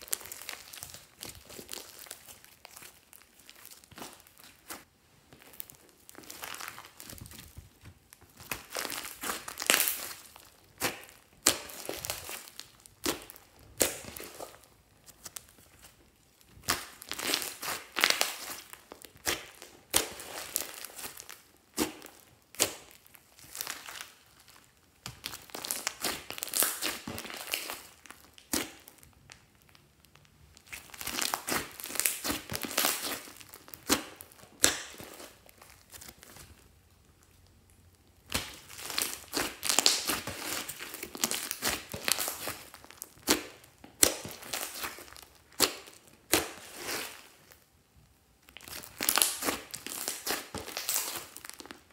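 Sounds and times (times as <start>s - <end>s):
slime squelching: 0.0s - 51.9s.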